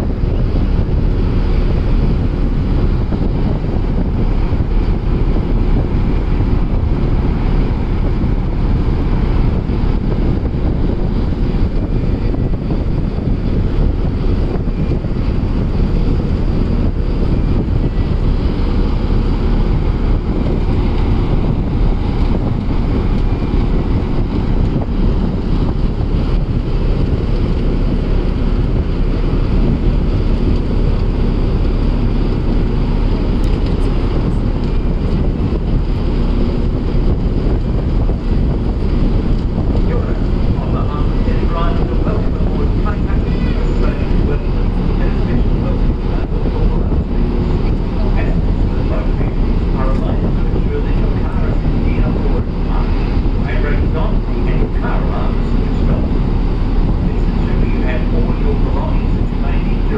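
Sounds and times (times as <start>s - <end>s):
ferry engines rumbling: 0.0s - 59.9s
wind buffeting microphone: 0.0s - 59.9s.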